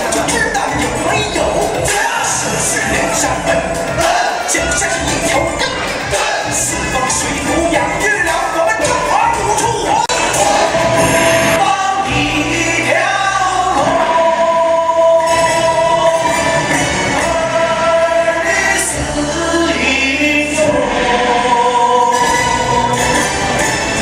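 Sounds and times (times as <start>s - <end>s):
person singing: 0.0s - 23.4s.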